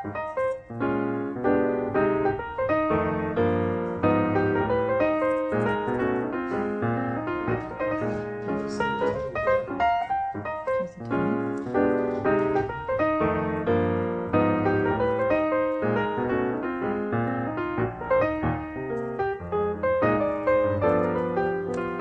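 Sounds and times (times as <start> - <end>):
piano melody: 0.0 - 22.0.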